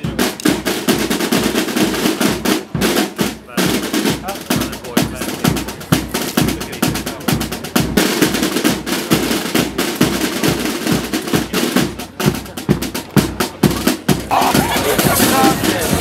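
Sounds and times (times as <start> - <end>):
bass drum beat: 0.0 - 16.0
snare drums rolling: 0.0 - 16.0.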